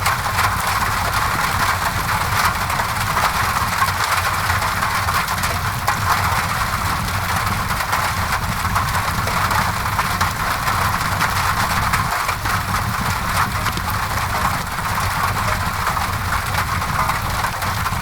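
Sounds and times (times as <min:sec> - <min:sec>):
rain against a window: 0:00.0 - 0:18.0.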